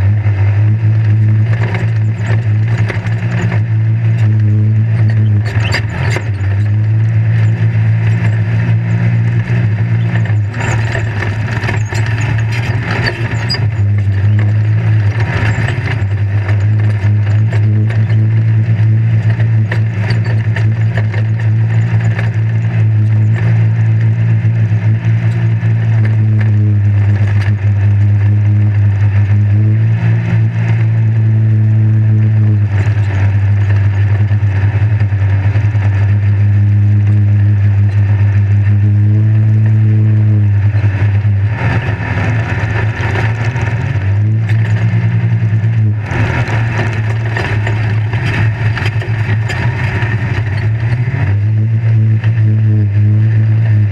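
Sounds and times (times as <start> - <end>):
cab rattle and road noise: 0.0 - 53.9
race vehicle engine revving high: 0.0 - 53.9.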